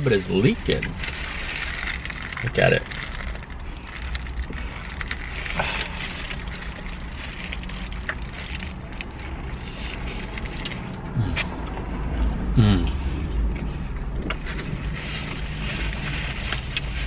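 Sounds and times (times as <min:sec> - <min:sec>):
clicks and rustles of eating: 0:00.4 - 0:12.4, 0:13.4 - 0:17.0.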